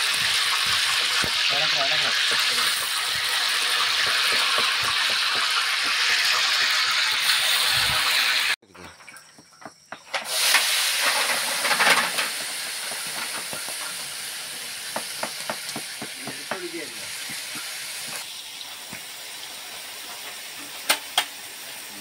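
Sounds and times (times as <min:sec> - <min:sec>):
food sizzling in a pot: 0:00.0 - 0:08.6, 0:10.0 - 0:22.0.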